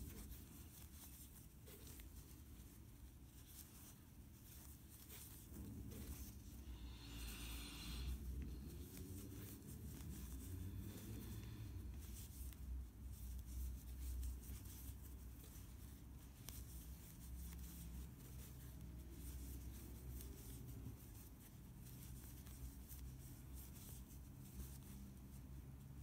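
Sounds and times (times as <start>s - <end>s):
hands rustling yarn: 0.0s - 26.0s.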